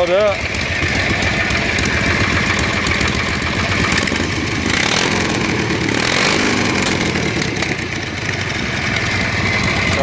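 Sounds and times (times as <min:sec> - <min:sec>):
lawn tractor engine idling: 0:00.0 - 0:10.0.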